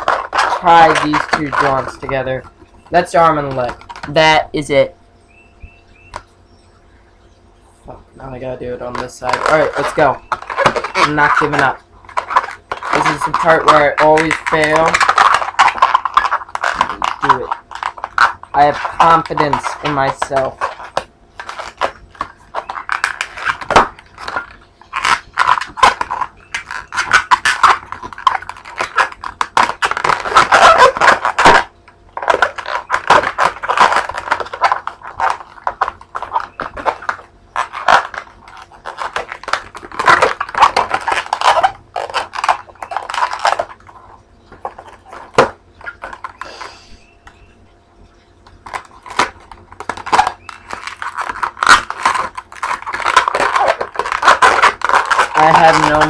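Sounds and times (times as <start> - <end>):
balloon squeaking and rubbing: 0.0 - 4.4, 8.8 - 47.7, 48.4 - 56.0.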